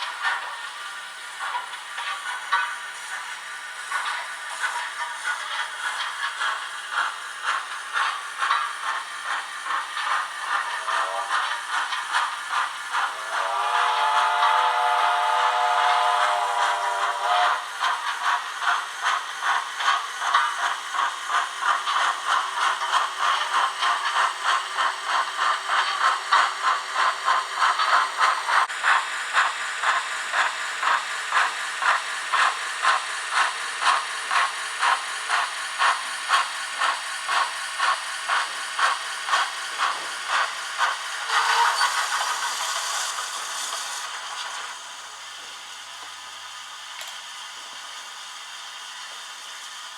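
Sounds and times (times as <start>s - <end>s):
hiss of steam: 0.0s - 49.9s
steam locomotive exhaust chuffs: 0.0s - 49.9s.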